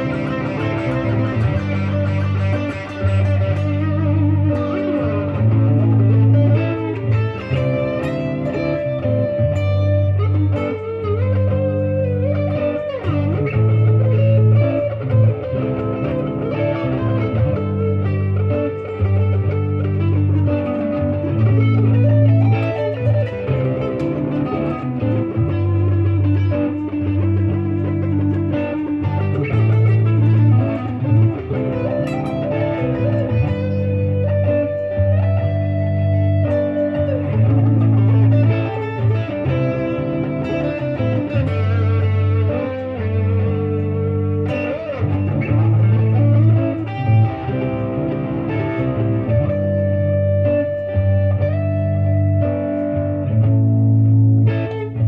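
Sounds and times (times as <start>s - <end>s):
backing track bass notes: 0.0s - 55.0s
electric guitar lead melody: 0.0s - 55.0s.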